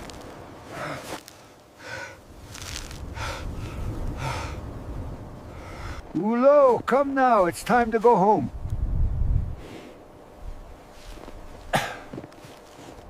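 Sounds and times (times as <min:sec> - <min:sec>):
steady low rumble: 0:00.0 - 0:06.2, 0:06.8 - 0:12.2.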